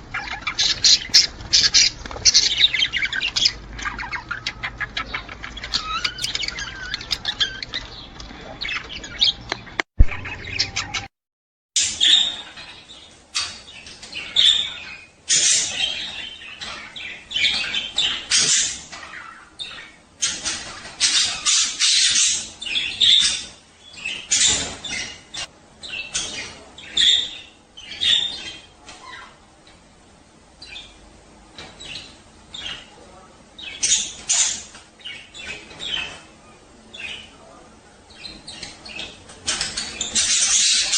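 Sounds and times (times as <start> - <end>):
budgerigars warbling and chattering: 0.1 - 11.1, 11.8 - 29.4, 31.6 - 40.9.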